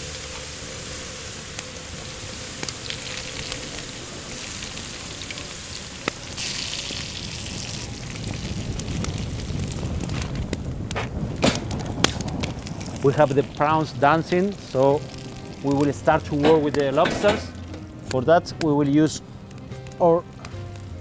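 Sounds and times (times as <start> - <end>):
garlic and prawns sizzling in oil: 0.0 - 10.9, 11.7 - 18.1.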